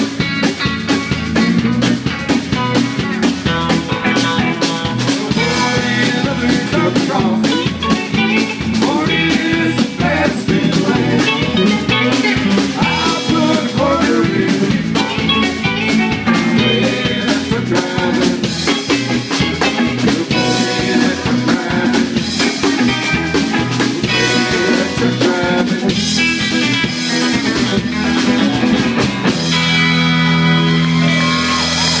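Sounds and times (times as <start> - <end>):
live band playing: 0.0 - 32.0
steady drum beat: 0.0 - 32.0.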